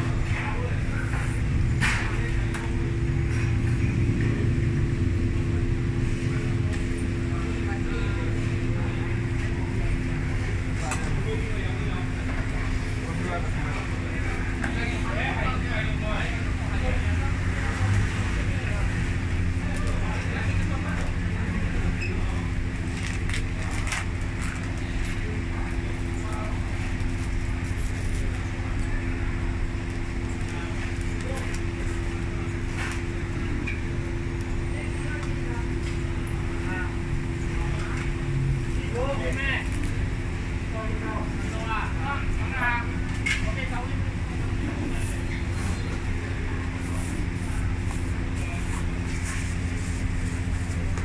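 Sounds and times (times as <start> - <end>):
low rumble with mechanical hum: 0.0 - 51.0.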